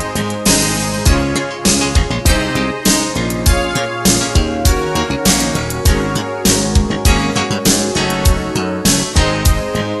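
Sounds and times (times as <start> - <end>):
music with drum beat and guitar: 0.0 - 10.0.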